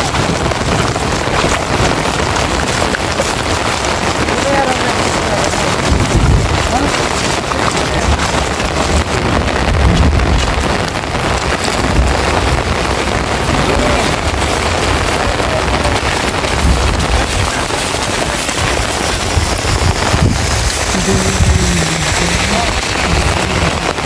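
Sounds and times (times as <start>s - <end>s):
heavy rain pouring: 0.0s - 24.0s
low rumble: 3.6s - 24.0s.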